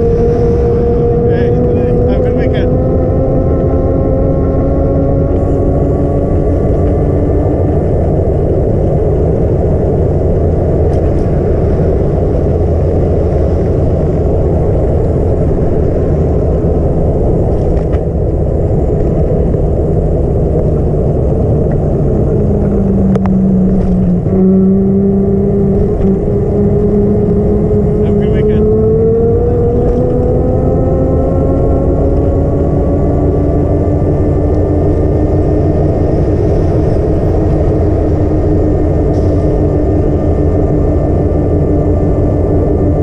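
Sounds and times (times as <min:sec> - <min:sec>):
engine tone rising in pitch: 0:00.0 - 0:43.0
vehicle engine running: 0:00.0 - 0:43.0
wind noise on microphone: 0:00.0 - 0:43.0.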